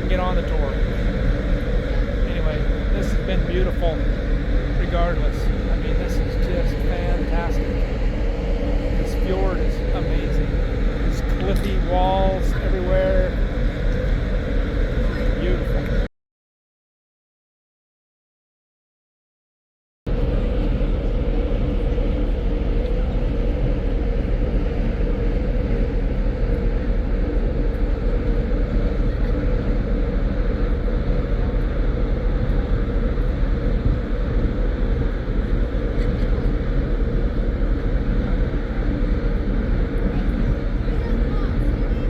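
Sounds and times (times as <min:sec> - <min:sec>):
ship engines droning: 0:00.0 - 0:16.1, 0:20.1 - 0:42.0.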